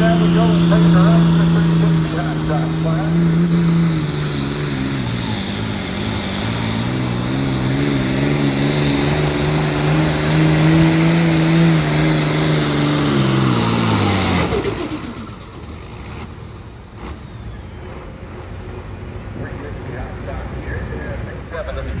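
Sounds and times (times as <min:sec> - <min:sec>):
vehicle engine revving hard: 0:00.0 - 0:22.0.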